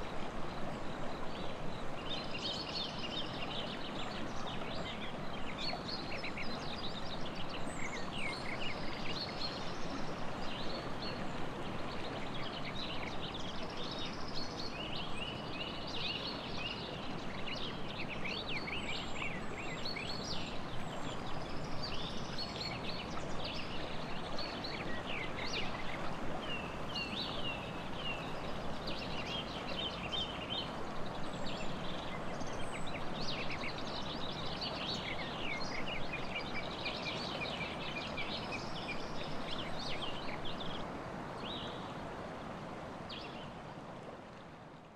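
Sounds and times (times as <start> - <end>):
songbirds chirping and trilling: 0.0 - 42.0
river rushing: 0.0 - 44.9.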